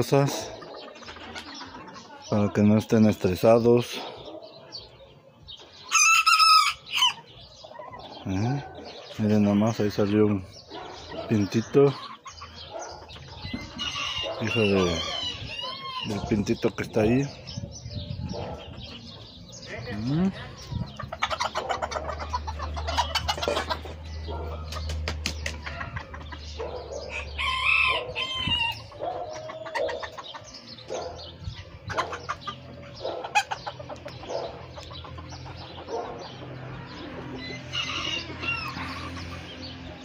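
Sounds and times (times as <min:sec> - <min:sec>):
roosters clucking: 0:00.0 - 0:40.0
roosters crowing: 0:05.5 - 0:19.6, 0:20.2 - 0:40.0.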